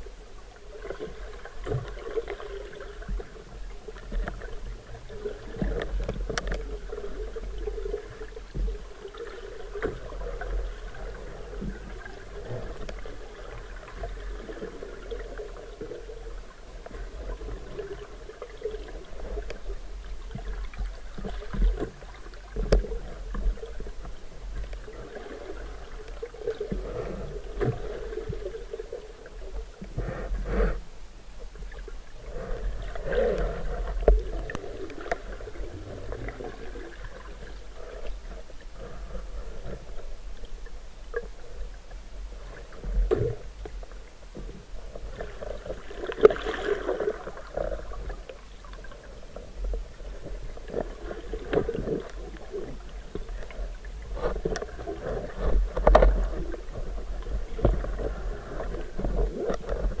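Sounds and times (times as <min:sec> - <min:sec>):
gurgling water: 0:00.0 - 1:00.0
low underwater rumble: 0:00.0 - 1:00.0.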